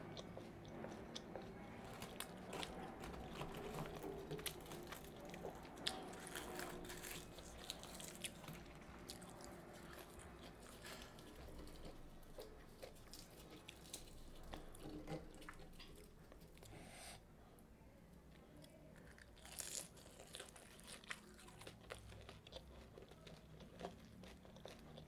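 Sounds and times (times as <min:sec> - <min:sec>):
person chewing crunchy food: 0:00.0 - 0:17.0, 0:18.7 - 0:25.0.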